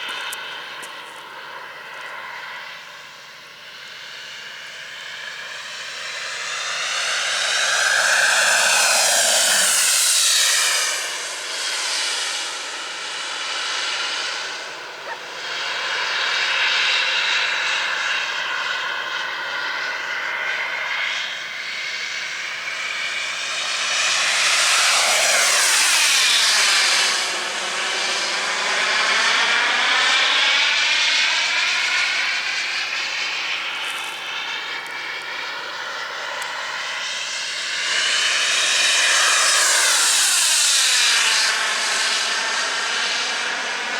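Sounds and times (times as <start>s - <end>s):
model jet turbine whine and roar: 0.0s - 43.9s.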